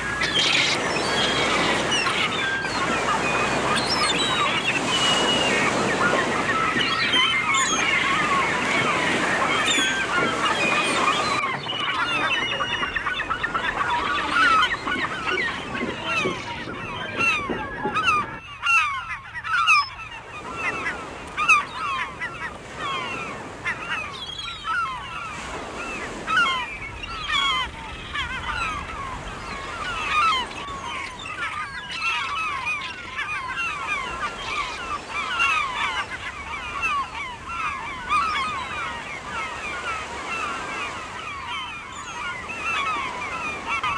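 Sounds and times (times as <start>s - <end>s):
gulls calling: 0.0s - 43.9s.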